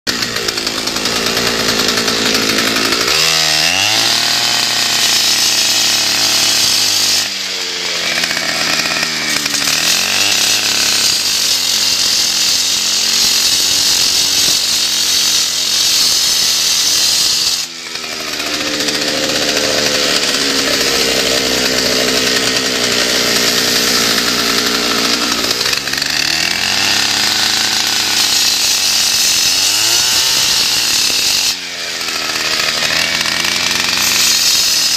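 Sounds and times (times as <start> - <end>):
concrete saw cutting concrete: 0.1 - 34.9.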